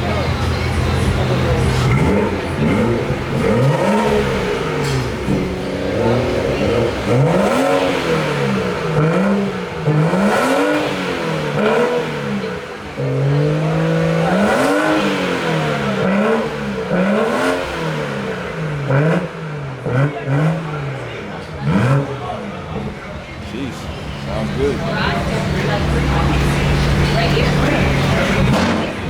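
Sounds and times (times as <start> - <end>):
car engine revving: 0.0 - 29.0
exhaust cracks: 0.0 - 29.0.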